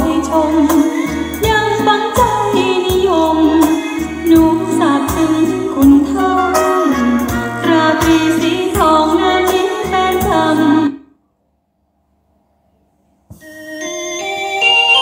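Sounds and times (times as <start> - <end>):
song over loudspeakers: 0.0 - 11.0, 13.3 - 15.0.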